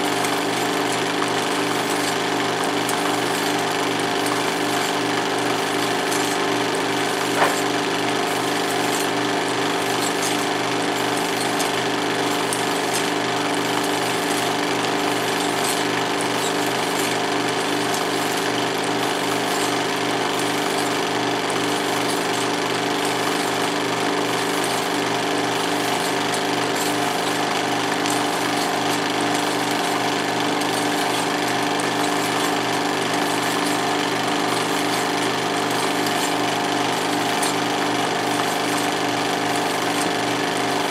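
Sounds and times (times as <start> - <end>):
film projector clatter: 0.0 - 40.9
projector motor hum: 0.0 - 40.9.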